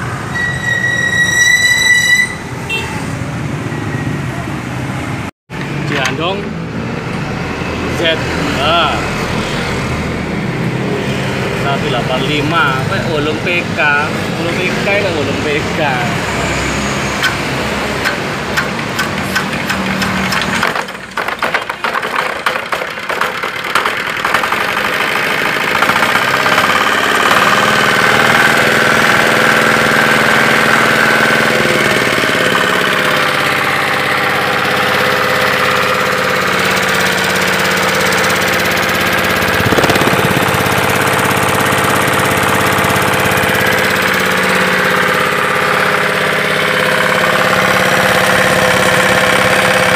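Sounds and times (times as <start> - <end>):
small diesel engine running: 2.7 - 49.9.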